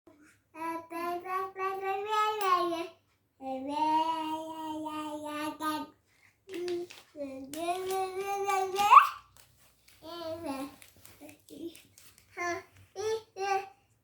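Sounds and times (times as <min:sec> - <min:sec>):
child singing: 0:00.5 - 0:09.2, 0:10.0 - 0:13.8.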